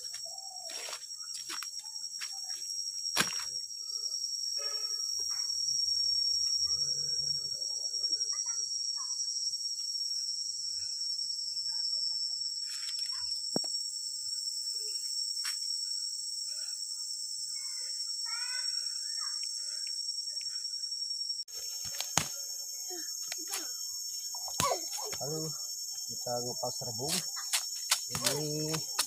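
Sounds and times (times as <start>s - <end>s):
insect chorus: 0.0s - 29.0s
short insect chirps: 0.0s - 29.0s.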